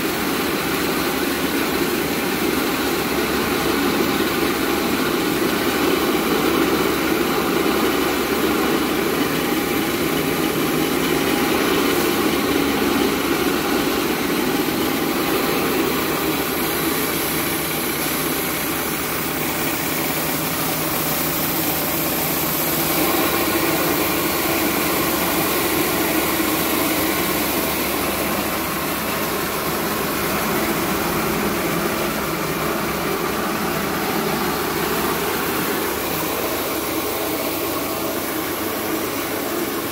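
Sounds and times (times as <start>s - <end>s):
rice milling machine whirring: 0.0s - 39.9s.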